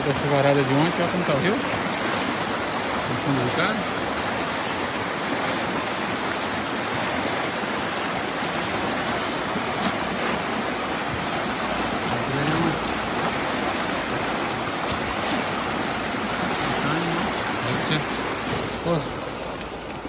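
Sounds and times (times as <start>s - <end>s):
stream rushing over rapids: 0.0s - 20.0s.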